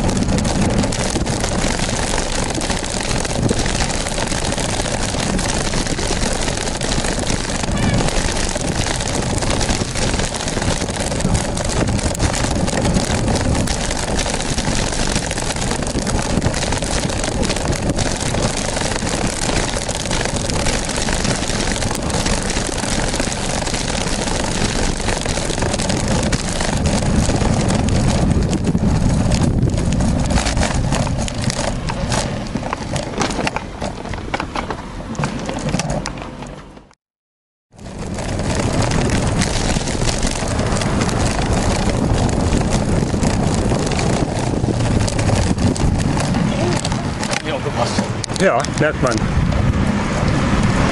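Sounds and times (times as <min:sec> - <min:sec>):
wind buffeting microphone: 0:00.0 - 0:36.9, 0:37.7 - 0:50.9
bicycle rattling over bumps: 0:00.0 - 0:37.0, 0:37.7 - 0:50.9
tyre rumble on asphalt: 0:00.0 - 0:37.0, 0:37.7 - 0:50.9.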